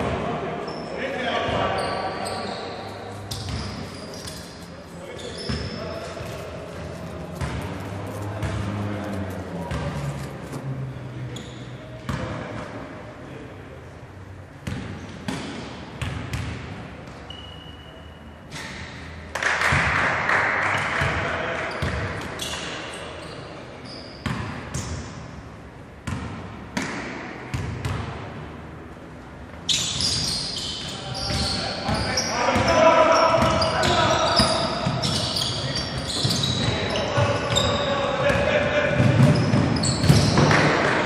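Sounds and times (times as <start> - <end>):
voices in a hall: 0.0 - 15.0, 16.5 - 26.0, 28.2 - 41.0.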